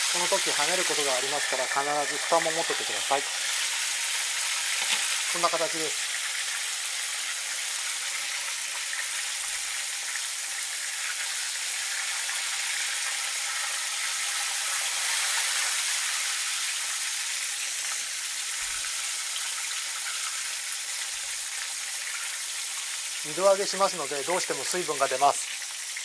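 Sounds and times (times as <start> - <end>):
chicken deep-frying in oil: 0.0 - 26.0.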